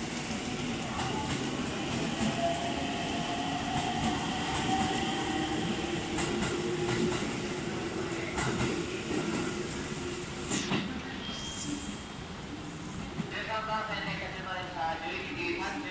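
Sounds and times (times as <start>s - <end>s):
rumble of train cars: 0.0s - 15.9s.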